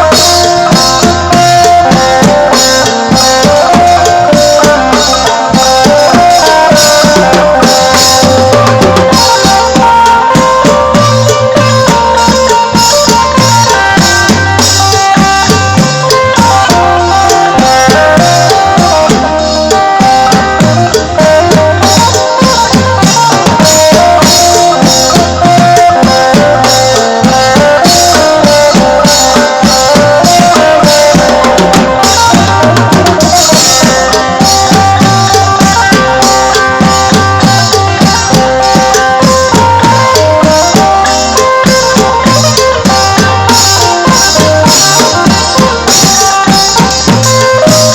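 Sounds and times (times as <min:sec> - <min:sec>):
drum kit beat with percussion: 0:00.0 - 0:47.9
electric lute melody: 0:00.0 - 0:47.9.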